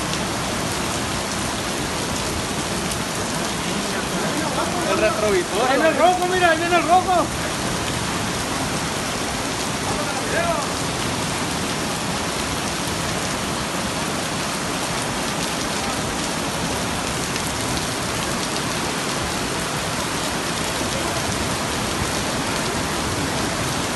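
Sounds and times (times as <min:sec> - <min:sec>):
torrential rain falling: 0:00.0 - 0:23.9.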